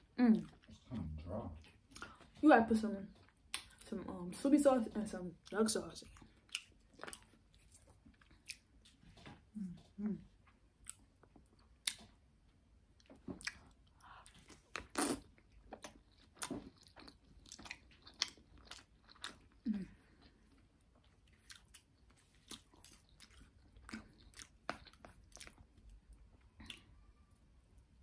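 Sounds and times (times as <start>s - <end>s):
person chewing noodles: 0.4s - 2.4s, 3.1s - 3.9s, 5.4s - 12.3s, 12.9s - 28.0s.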